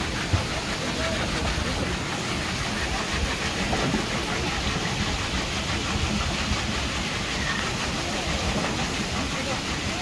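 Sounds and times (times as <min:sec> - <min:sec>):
water wheels turning in running water: 0:00.0 - 0:10.0.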